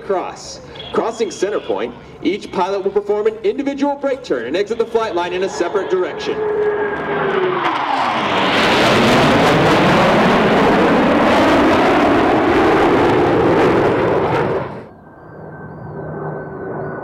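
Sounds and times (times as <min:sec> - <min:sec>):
distant jet noise with whine: 0:00.0 - 0:17.0
jet roar passing overhead: 0:00.0 - 0:17.0.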